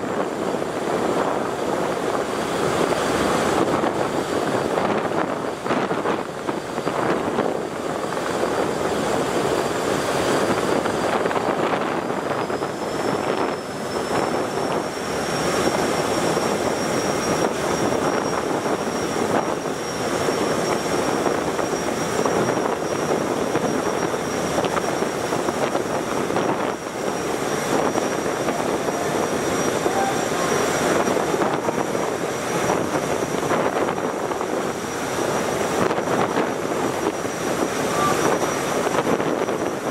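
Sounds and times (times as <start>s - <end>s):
boat engine drone: 0.0s - 39.9s
rushing water: 0.0s - 39.9s
thin high whine: 4.6s - 39.9s.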